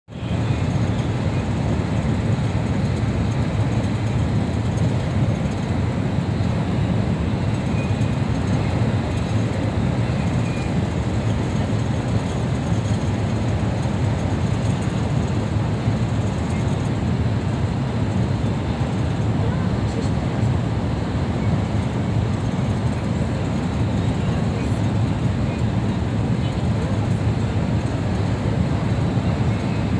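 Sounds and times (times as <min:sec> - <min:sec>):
road vehicle rumble inside cabin: 0:00.1 - 0:29.9.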